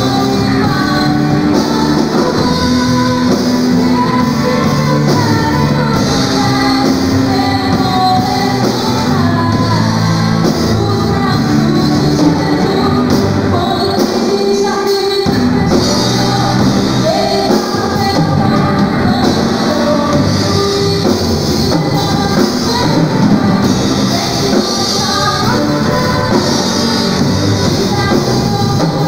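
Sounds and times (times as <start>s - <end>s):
live band playing: 0.0s - 29.0s
woman singing: 0.0s - 29.0s.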